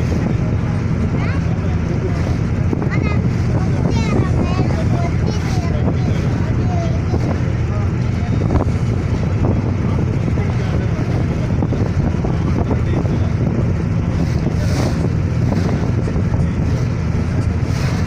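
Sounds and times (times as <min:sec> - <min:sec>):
ferry engine droning: 0:00.0 - 0:18.0
wind buffeting microphone: 0:00.0 - 0:18.0.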